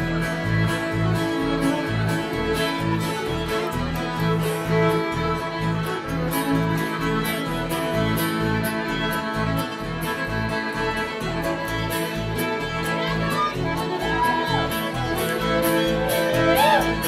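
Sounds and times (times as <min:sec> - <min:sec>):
fiddles playing melody: 0:00.0 - 0:17.0
mandolin: 0:00.0 - 0:17.0
strummed guitar: 0:00.0 - 0:17.0
upright bass: 0:00.0 - 0:17.0.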